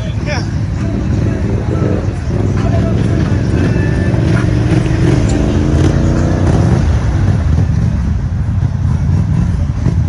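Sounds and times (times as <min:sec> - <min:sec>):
atv engine revving: 0:00.0 - 0:10.0.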